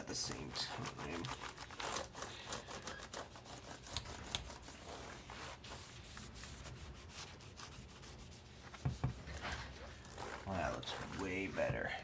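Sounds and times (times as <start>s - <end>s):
cloth rubbing over keys: 0.0s - 11.9s.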